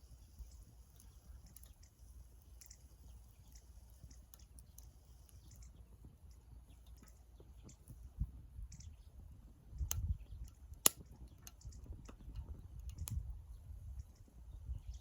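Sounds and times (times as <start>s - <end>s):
wood fire crackling: 0.0s - 14.4s.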